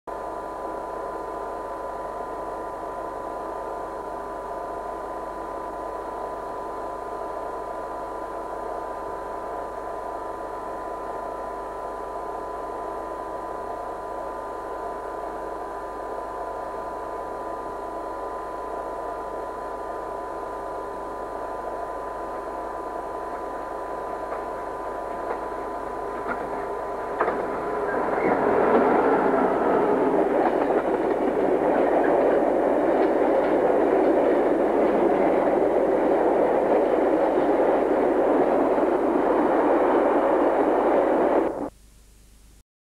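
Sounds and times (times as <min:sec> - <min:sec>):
diesel locomotive engine: 0:00.1 - 0:41.7
faint constant tone: 0:00.1 - 0:42.6
steady hum and hiss: 0:00.1 - 0:42.6.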